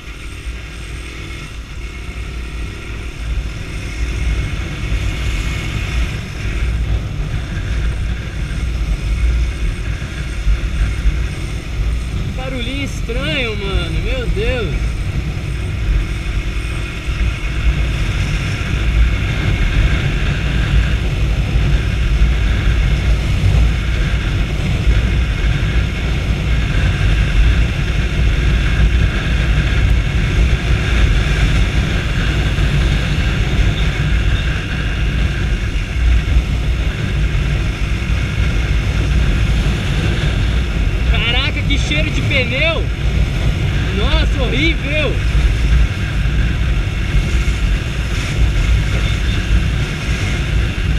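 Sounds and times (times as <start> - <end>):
motorcycle engine running: 0.0 - 50.9
wind rumble on microphone: 0.0 - 50.9.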